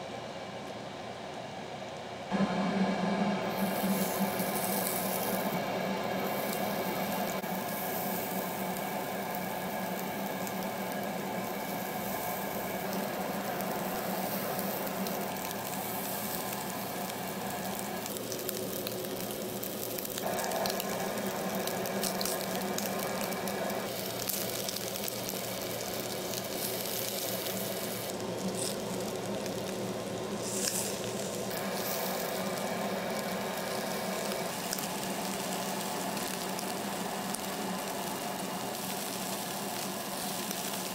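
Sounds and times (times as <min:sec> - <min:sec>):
meat sizzling on a grill: 0:03.5 - 0:40.9.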